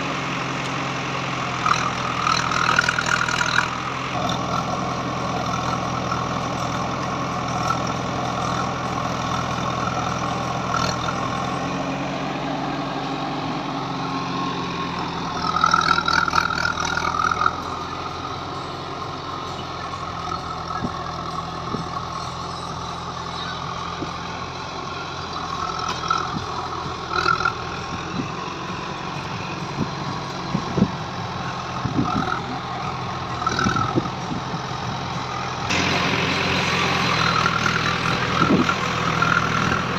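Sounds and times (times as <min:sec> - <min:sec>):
diesel engines running at low revs: 0:00.0 - 0:39.9.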